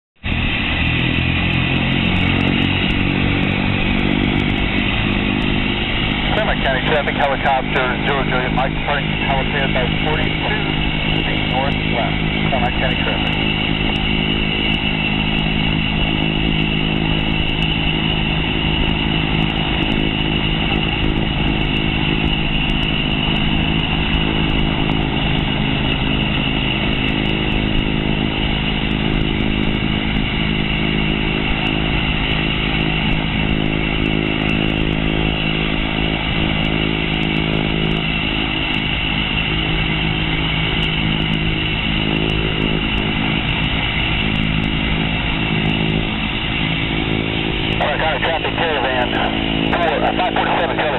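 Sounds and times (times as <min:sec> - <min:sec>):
turboprop engine running: 0:00.2 - 0:50.9.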